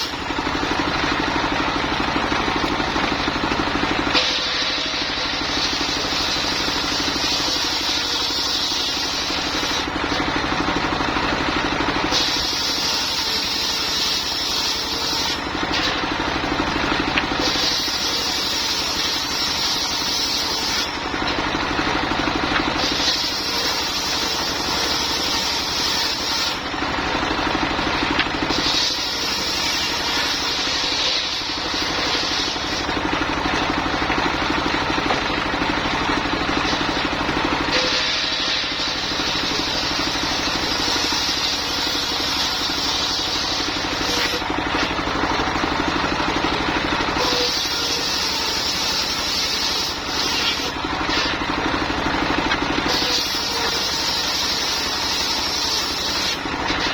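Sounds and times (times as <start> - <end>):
saw blade cutting wood: 0.0 - 56.9
sawmill engine running: 0.0 - 56.9.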